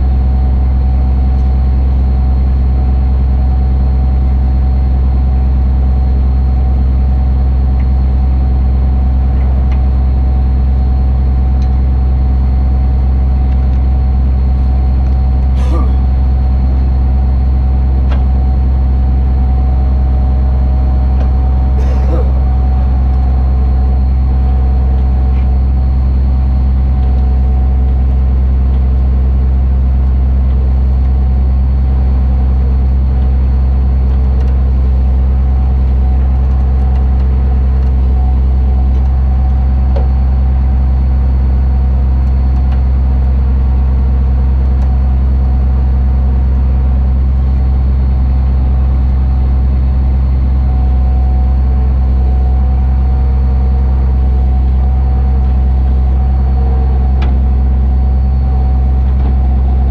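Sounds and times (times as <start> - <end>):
faint steady whine: 0.0 - 59.9
tow truck engine running: 0.0 - 59.9.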